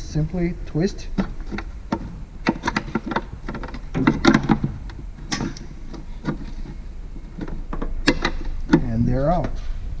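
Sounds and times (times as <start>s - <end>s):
low steady hum: 0.0s - 10.0s
plastic clicks and knocks: 1.2s - 9.6s.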